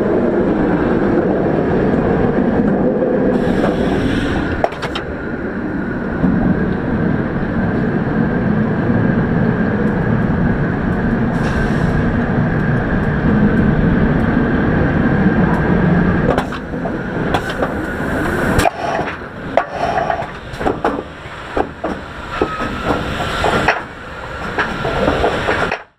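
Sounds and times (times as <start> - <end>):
roller coaster rumbling on track: 0.0 - 25.9.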